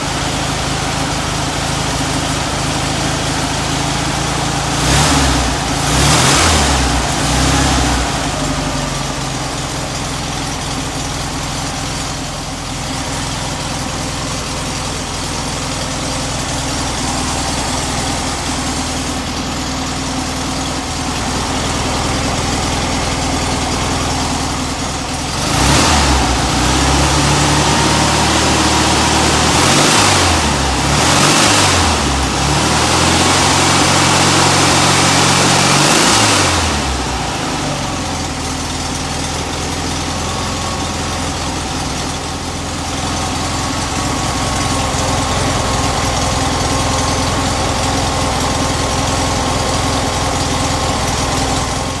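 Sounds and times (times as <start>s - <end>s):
car engine revving and idling: 0.0s - 52.0s.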